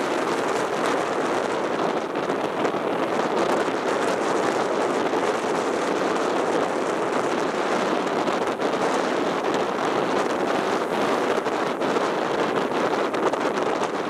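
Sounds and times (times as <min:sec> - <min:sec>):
rough surf breaking over rocks: 0:00.0 - 0:14.0
wind on microphone: 0:00.0 - 0:14.0.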